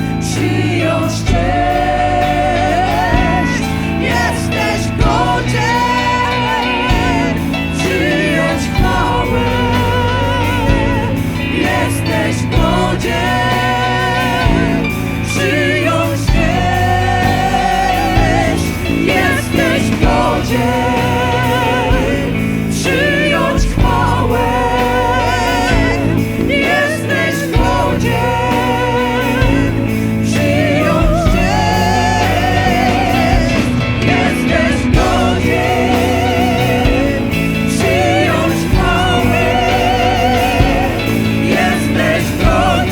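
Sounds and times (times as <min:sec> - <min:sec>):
band sustained chords: 0:00.0 - 0:42.9
bass: 0:00.0 - 0:42.9
voices singing with vibrato: 0:00.0 - 0:42.9.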